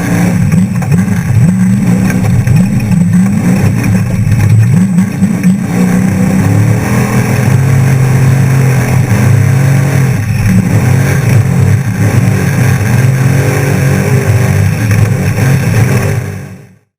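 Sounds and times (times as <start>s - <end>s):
rushing noise: 0.0s - 16.8s
truck engine running hard: 0.0s - 16.9s.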